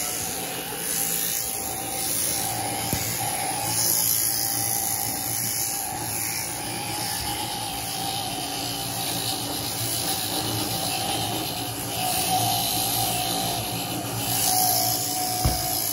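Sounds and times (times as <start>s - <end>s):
sheep-shearing handpiece running: 0.0s - 15.9s.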